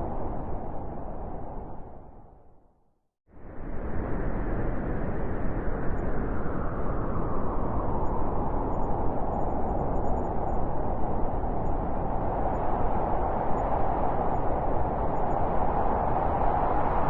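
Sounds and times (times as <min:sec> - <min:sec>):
blizzard wind blowing: 0:00.0 - 0:02.7, 0:03.4 - 0:17.0.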